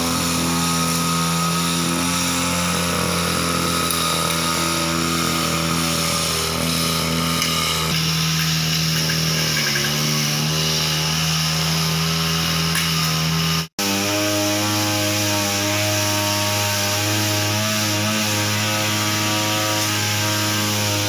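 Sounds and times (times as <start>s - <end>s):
brush cutter engine cutting grass: 0.0s - 21.0s.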